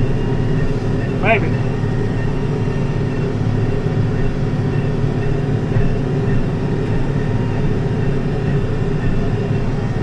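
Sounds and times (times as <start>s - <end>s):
hay baler working: 0.0s - 10.0s
tractor engine under load: 0.0s - 10.0s.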